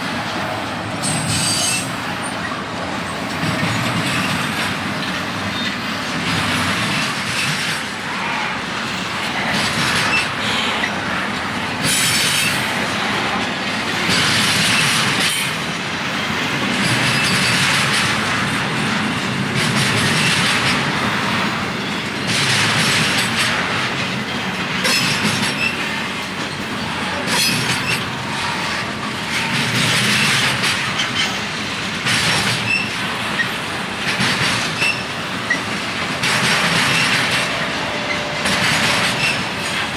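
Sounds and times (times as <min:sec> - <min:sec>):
steel wheels clacking on rail joints: 0:00.0 - 0:39.9.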